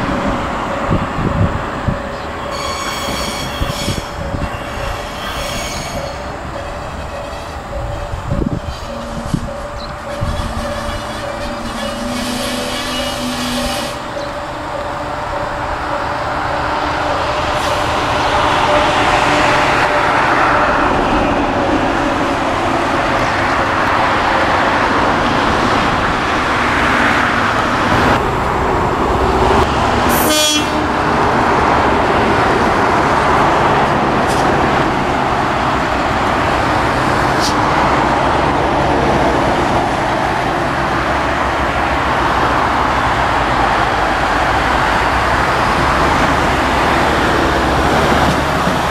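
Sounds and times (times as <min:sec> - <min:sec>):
diesel railcar engine running hard: 0:00.0 - 0:48.9.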